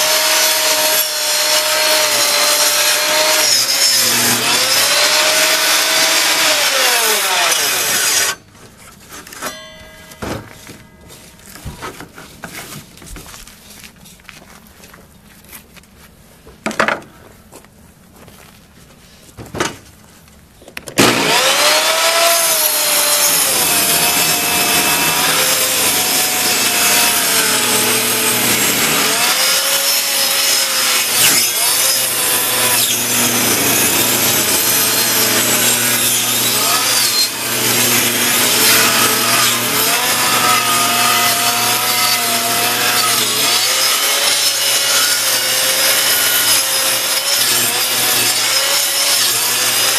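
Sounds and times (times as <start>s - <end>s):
table saw cutting wood: 0.0s - 8.5s, 9.1s - 11.8s, 21.0s - 49.9s.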